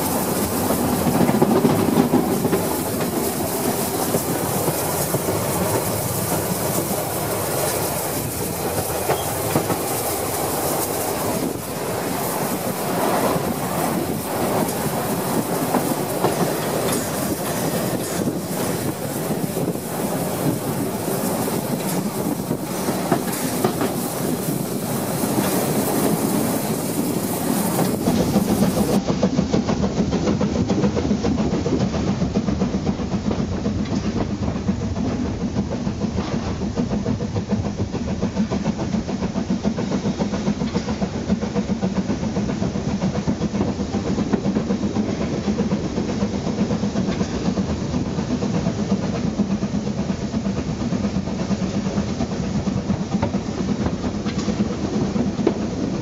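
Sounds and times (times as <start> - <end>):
steam hiss: 0.0 - 56.0
steam train running: 0.0 - 56.0
wind noise: 0.0 - 56.0.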